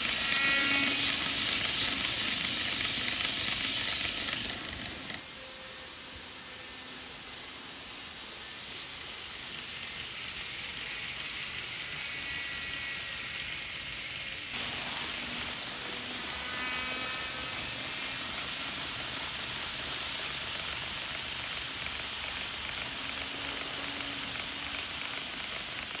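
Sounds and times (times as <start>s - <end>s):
model train wheels rolling: 0.0s - 5.6s, 6.7s - 26.0s
faint electric motor whine: 0.0s - 18.8s, 21.5s - 26.0s.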